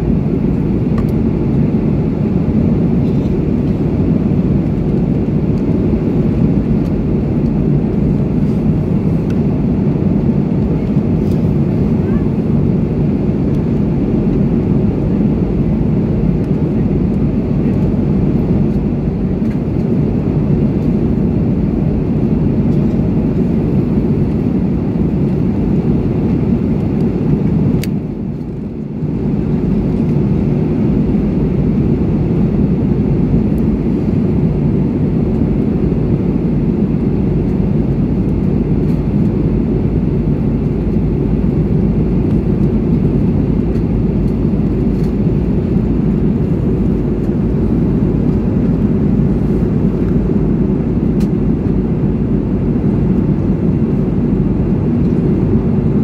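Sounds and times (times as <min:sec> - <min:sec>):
jet cabin roar: 0:00.0 - 0:56.0.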